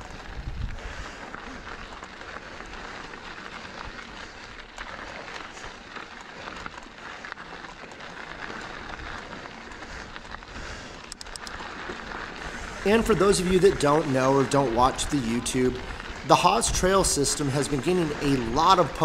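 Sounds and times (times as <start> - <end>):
bike tyres rushing on dirt: 0.0 - 19.0
gravel and bike rattles: 0.0 - 19.0.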